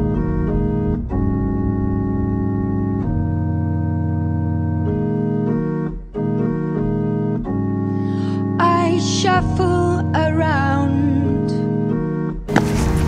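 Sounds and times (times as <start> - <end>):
organ-like keyboard chords: 0.0 - 13.0.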